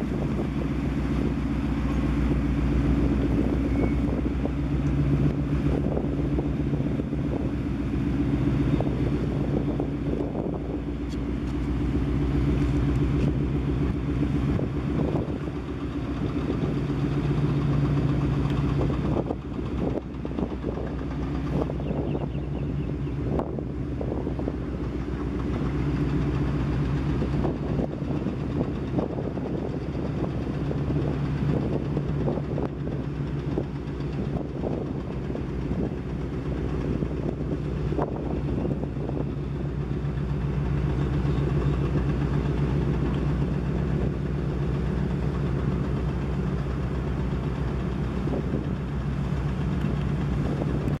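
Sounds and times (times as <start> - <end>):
engine droning hum: 0.0 - 51.0.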